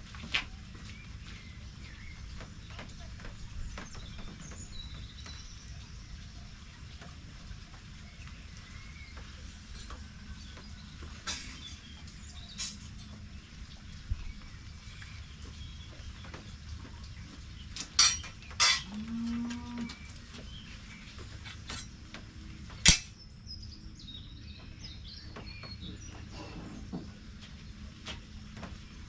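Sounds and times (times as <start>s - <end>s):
small birds chirping: 0.2s - 29.0s.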